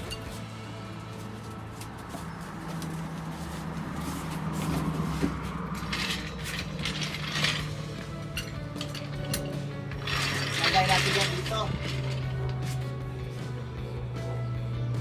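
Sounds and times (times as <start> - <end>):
metal clinks and scrapes: 0.0 - 14.6.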